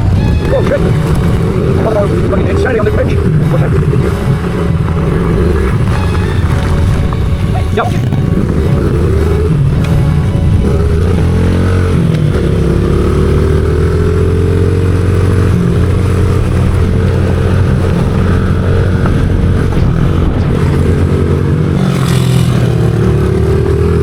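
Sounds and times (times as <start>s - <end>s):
small motorbike engine running: 0.0s - 24.0s.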